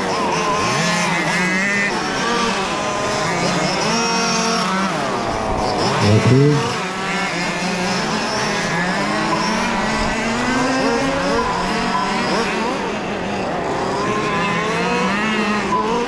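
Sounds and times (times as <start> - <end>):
model car passing close: 0.0 - 16.0
model race car engines revving: 0.0 - 16.0.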